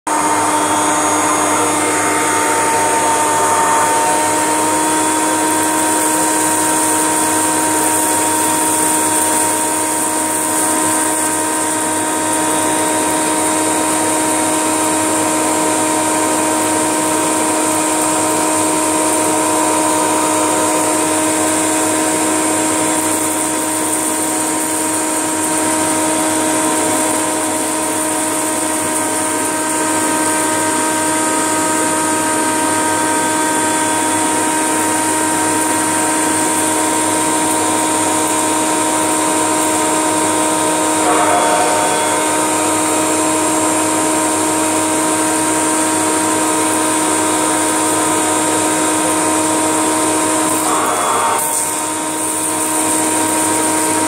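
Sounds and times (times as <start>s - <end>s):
vacuum cleaner running: 0.0s - 54.0s
rice rattling up a hose: 0.1s - 54.0s.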